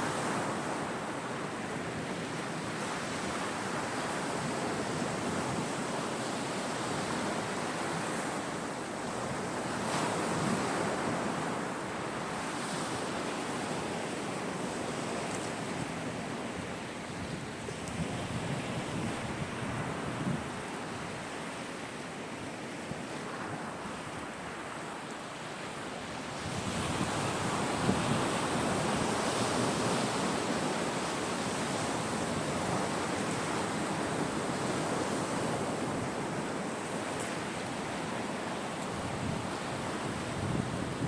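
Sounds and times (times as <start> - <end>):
sea surf washing onto shore: 0.0 - 41.0.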